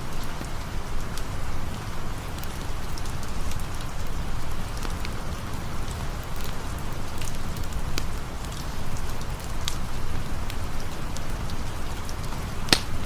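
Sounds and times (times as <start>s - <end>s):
campfire crackling: 0.0s - 13.0s
rain falling: 0.0s - 13.0s.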